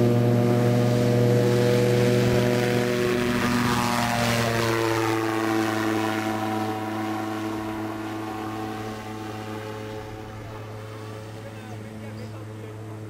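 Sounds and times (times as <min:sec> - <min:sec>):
ultralight propeller engine passing: 0:00.0 - 0:13.0.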